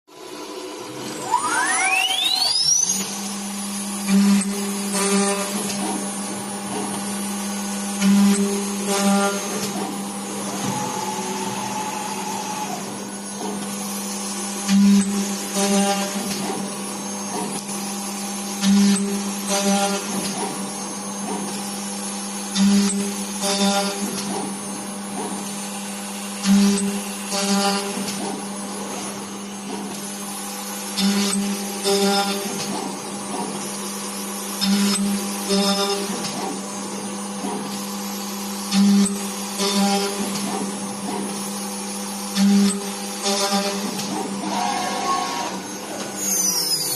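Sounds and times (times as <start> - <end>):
machine cutting noises: 0.1 - 46.9
machine spindle whine and hum: 0.1 - 46.9.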